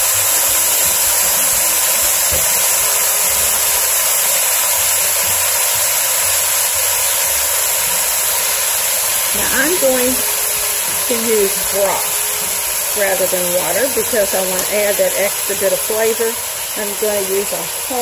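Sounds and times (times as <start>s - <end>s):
chicken and onion sizzling in oil: 0.0s - 18.0s.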